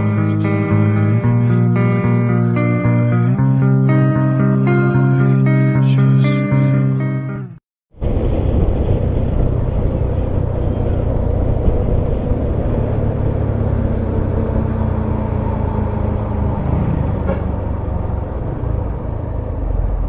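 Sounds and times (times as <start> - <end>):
bus engine rumbling: 0.0 - 4.7, 8.0 - 20.0.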